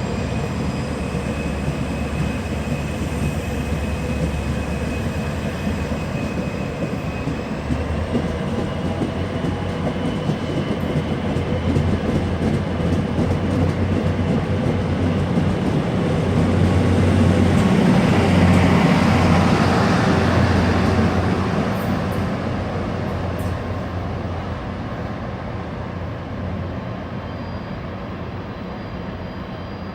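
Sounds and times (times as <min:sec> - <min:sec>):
passenger train passing by: 0:00.0 - 0:29.9
train low hum and rising whine: 0:00.0 - 0:29.9.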